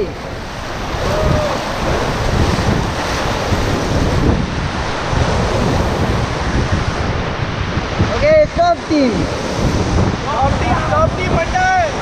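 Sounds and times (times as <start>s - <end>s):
whitewater rushing and churning: 0.0s - 12.0s
wind buffeting microphone: 0.0s - 12.0s.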